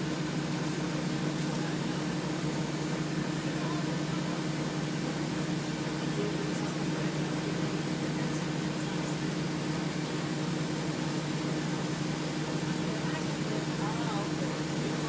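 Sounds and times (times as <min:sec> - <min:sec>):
bus engine droning in cabin: 0:00.0 - 0:15.0.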